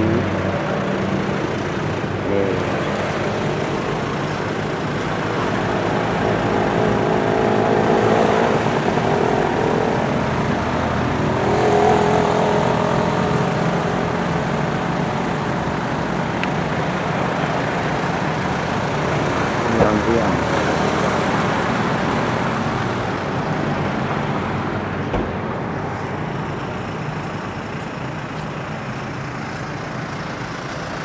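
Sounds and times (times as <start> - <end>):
road traffic hum: 0.0 - 31.0
vehicles passing: 0.0 - 31.0.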